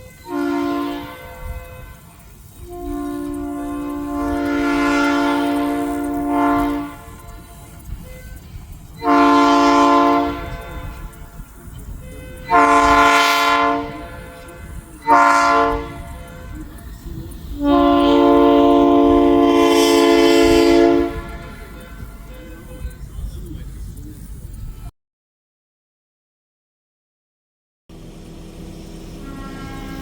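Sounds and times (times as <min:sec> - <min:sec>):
locomotive air horn blasts: 0:00.0 - 0:23.1, 0:29.0 - 0:30.0.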